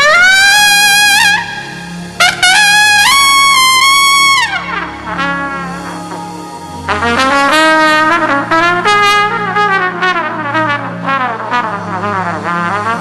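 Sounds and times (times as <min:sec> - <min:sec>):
held low accompaniment notes: 0:00.0 - 0:13.0.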